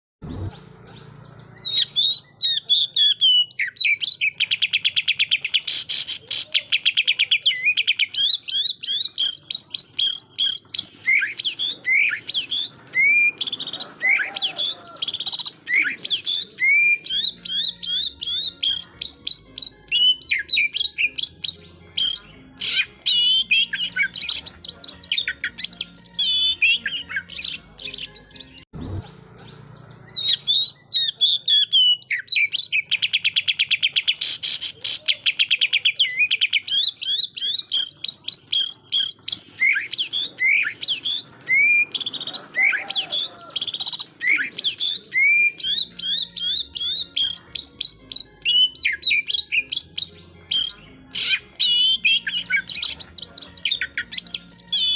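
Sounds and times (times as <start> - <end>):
magpie-robin singing: 0.2 - 54.9.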